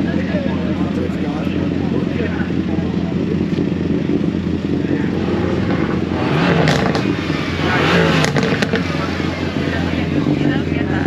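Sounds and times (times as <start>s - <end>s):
car engine idling: 0.0s - 11.0s
engine revving: 0.0s - 11.0s.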